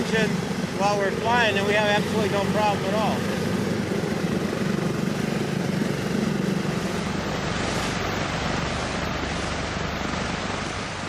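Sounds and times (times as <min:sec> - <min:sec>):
broad rushing noise: 0:00.0 - 0:11.0
propeller engines droning: 0:00.0 - 0:11.0.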